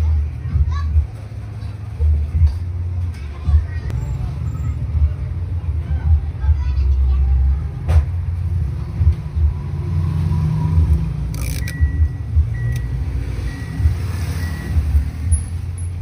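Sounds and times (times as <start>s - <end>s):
steady low rumble: 0.0s - 9.9s, 10.7s - 14.0s.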